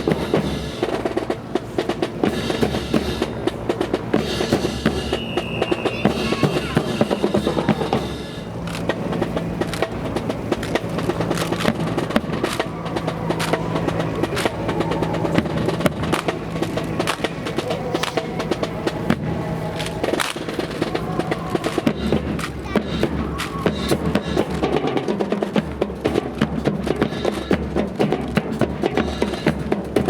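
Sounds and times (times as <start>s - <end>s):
drum-led music: 0.0s - 30.0s
snare drum strokes: 0.0s - 30.0s.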